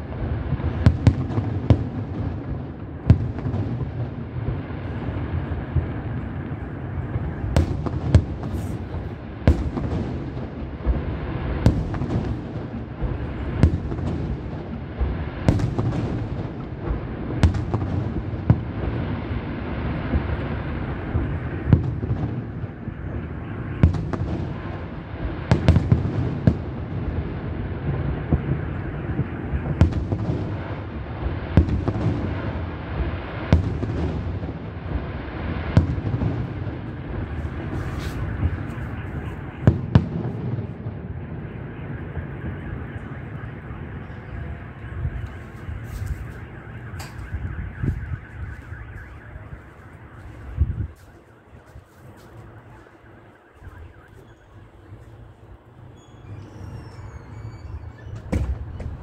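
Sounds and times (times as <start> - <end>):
continuous low rumble: 0.0 - 59.0
fireworks bursting with sharp bangs: 0.0 - 59.0.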